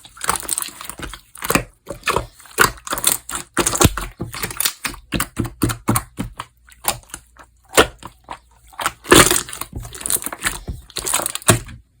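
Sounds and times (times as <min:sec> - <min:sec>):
slime crackling and popping: 0:00.0 - 0:11.7.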